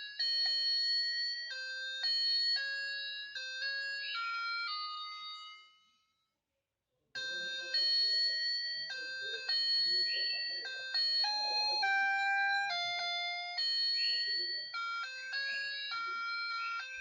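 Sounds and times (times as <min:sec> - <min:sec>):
toy electronic beeping tune: 0:00.0 - 0:05.9, 0:07.2 - 0:17.0.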